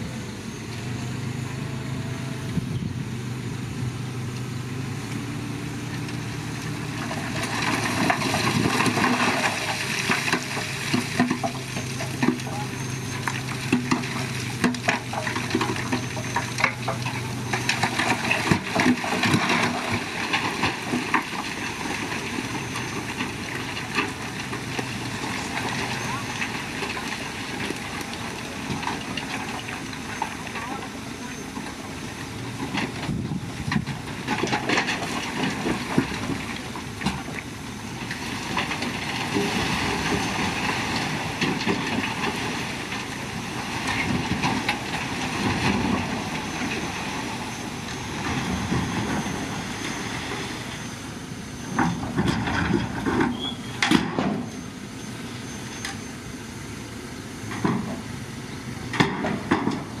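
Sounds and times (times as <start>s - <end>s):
excavator engine under load: 0.0s - 60.0s.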